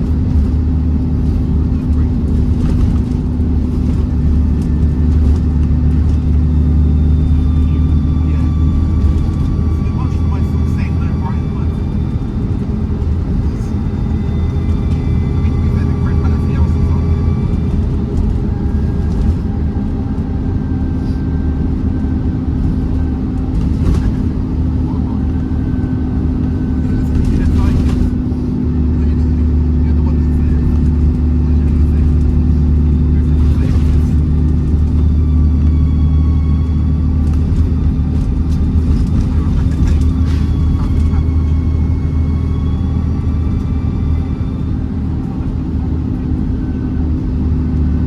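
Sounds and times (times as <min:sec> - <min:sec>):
bus engine drone: 0:00.0 - 0:48.0.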